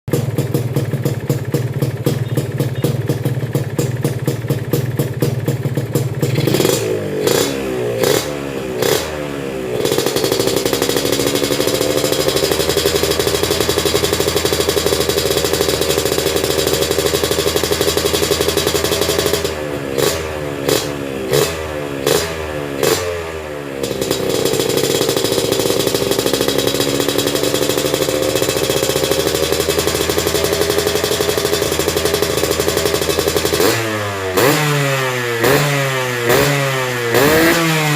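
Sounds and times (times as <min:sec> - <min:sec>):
two-stroke motorcycle engine revving: 0:00.1 - 0:37.9.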